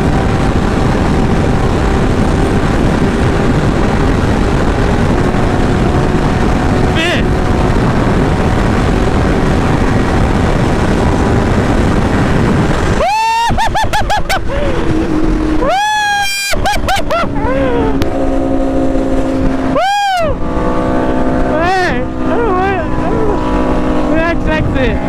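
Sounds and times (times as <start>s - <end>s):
motorcycle engine accelerating: 0.0s - 25.0s
wind rush on microphone: 0.0s - 25.0s.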